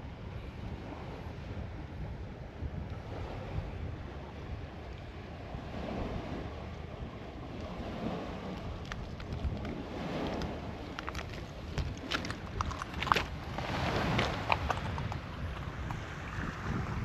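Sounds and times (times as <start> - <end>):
sea surf: 0.0 - 17.0
wind buffeting microphone: 0.0 - 17.0.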